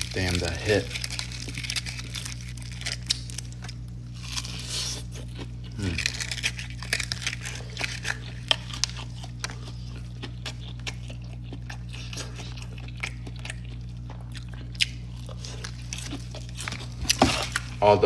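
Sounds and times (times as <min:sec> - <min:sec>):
chewing crispy fried chicken: 0:00.0 - 0:18.0.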